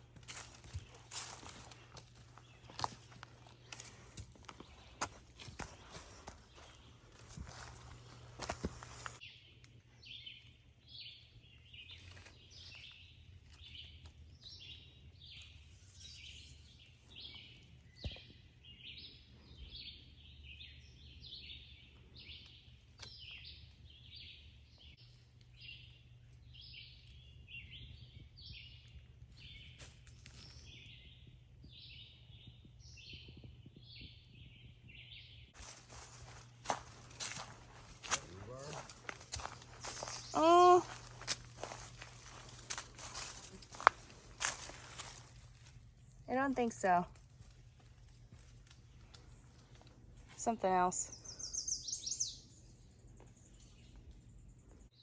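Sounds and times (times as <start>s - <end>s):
low steady hum: 0.0s - 12.4s, 17.8s - 51.4s.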